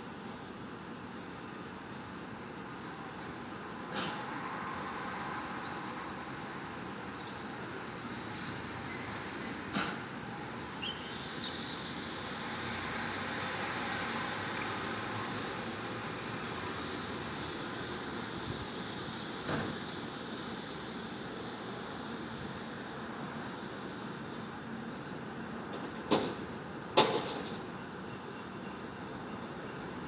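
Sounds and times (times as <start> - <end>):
city traffic hum: 0.0 - 30.0.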